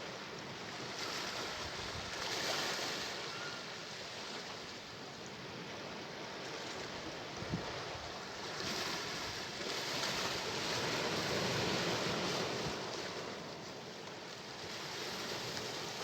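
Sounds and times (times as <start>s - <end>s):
sea waves washing in: 0.0s - 16.0s.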